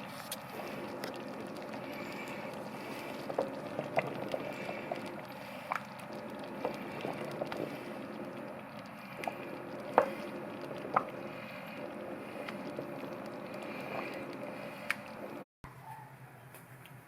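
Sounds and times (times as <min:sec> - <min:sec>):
soup simmering with bubble pops: 0:00.0 - 0:15.4.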